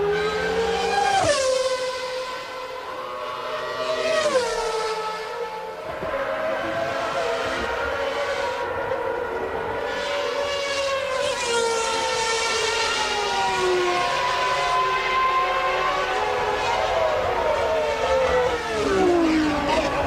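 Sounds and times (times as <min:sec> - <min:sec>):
racing car engines at high revs: 0:00.0 - 0:20.0.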